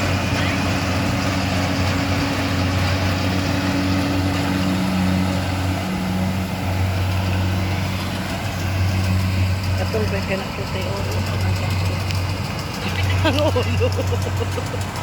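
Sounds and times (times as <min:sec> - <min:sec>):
combine harvester engine hum: 0:00.0 - 0:15.0
constant rushing noise: 0:00.0 - 0:15.0.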